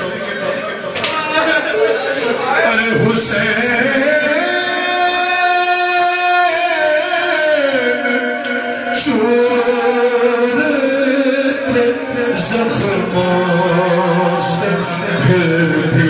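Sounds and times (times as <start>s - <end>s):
man chanting into microphone: 0.0s - 16.0s.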